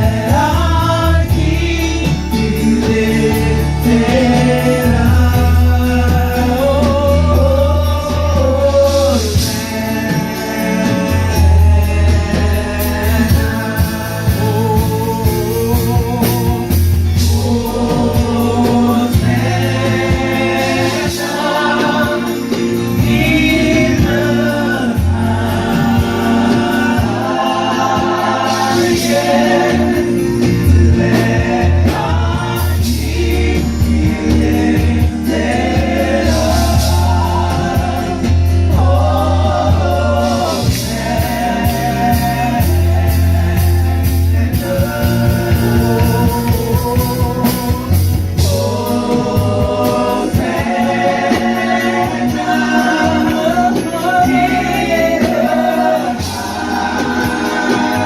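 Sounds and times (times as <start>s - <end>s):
band playing: 0.0s - 58.0s
group singing: 0.0s - 58.0s.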